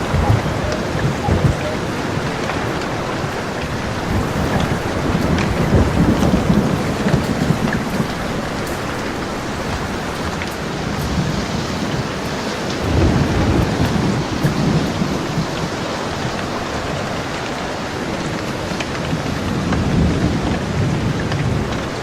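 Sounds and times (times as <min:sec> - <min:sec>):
steady rain falling: 0:00.0 - 0:22.0
thunder rumbling: 0:00.0 - 0:22.0.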